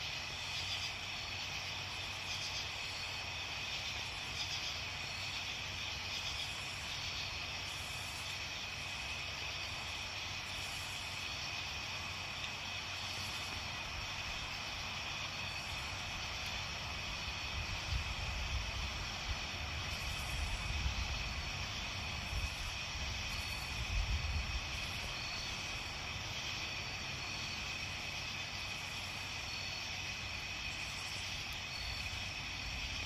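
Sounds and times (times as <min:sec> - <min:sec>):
campfire hissing and crackling: 0:00.0 - 0:33.0.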